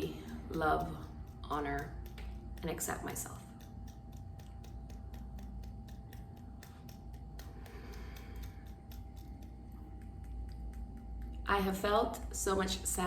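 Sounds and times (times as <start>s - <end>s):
fingertips tapping on body: 0.0s - 12.2s
low steady hum: 0.0s - 13.0s.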